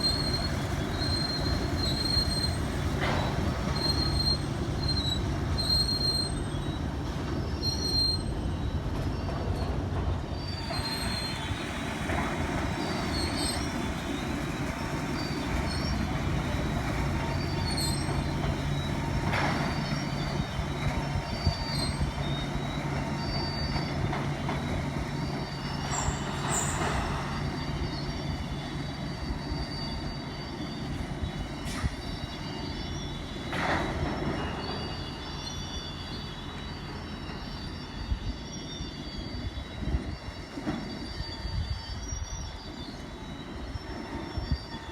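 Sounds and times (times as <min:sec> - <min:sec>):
steel-on-steel screeches: 0:00.0 - 0:44.9.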